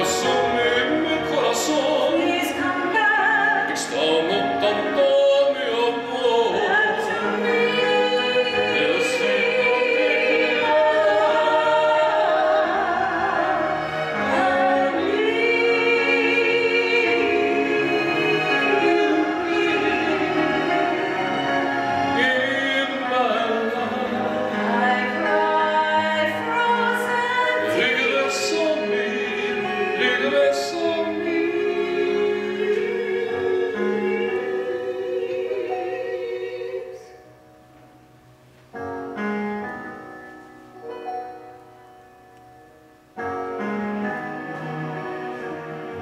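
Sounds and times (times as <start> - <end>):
man and woman singing duet: 0.0 - 37.2
piano: 0.0 - 46.0.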